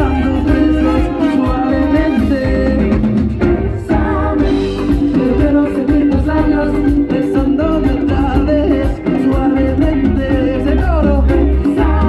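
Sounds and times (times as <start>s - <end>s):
latin band playing: 0.0s - 12.0s
person singing: 0.0s - 12.0s.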